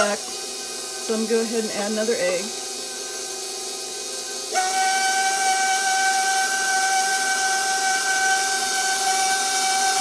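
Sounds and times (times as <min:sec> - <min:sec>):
stand mixer motor whining: 0:00.0 - 0:10.0.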